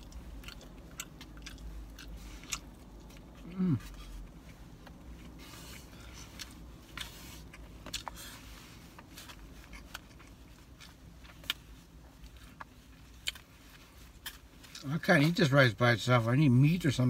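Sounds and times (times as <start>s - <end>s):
soft chewing: 0.0s - 15.5s
low steady hum: 0.0s - 17.0s.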